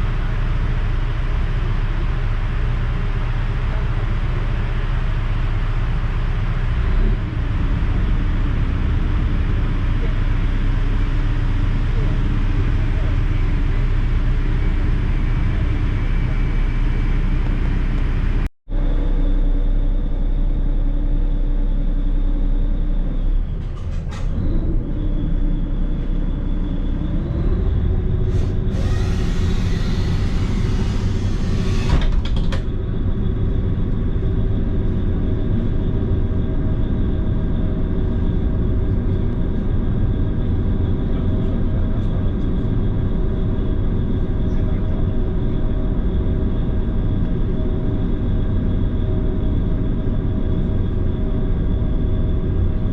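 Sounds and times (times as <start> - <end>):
ferry engines droning: 0.0 - 52.9.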